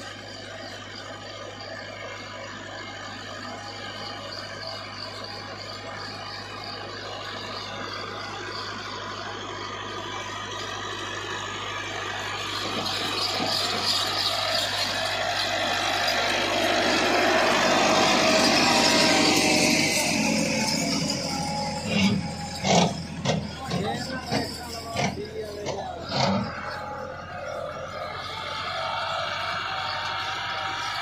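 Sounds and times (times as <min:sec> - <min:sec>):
tractor diesel engine: 0:00.0 - 0:31.0.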